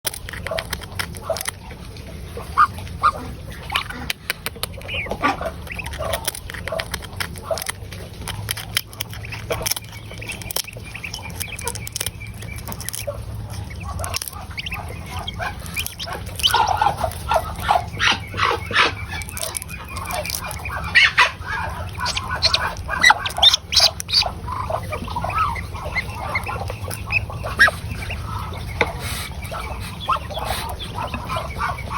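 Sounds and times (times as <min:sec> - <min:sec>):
chickens clucking: 0:00.1 - 0:31.9
low steady hum: 0:00.1 - 0:31.9
ducks quacking: 0:00.3 - 0:31.9.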